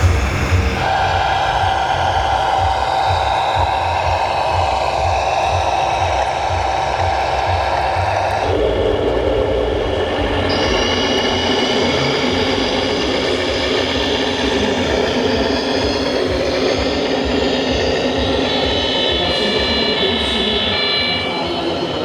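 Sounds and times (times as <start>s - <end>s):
electric motor whines: 0.0s - 22.0s
higher motor whine: 0.0s - 22.0s
low rumble: 0.0s - 22.0s.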